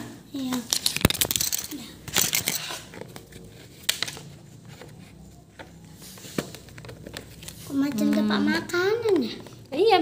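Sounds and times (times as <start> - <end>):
plastic parts clicking and knocking: 0.5 - 9.8.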